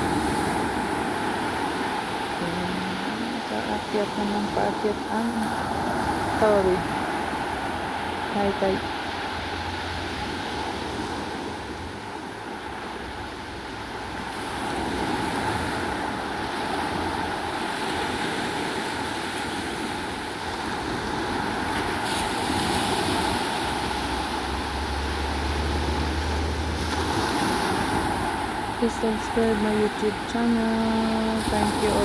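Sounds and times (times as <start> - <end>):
waves washing in: 0.0 - 32.0.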